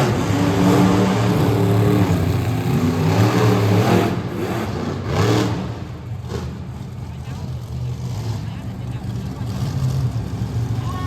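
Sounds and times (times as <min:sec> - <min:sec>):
monster truck engine revving: 0:00.0 - 0:10.9.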